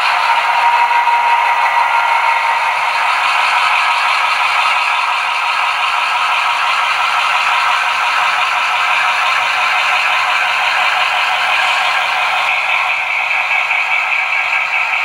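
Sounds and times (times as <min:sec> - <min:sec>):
model locomotive diesel engine sound: 0:00.0 - 0:15.0
wheels clattering on rails: 0:00.0 - 0:15.0.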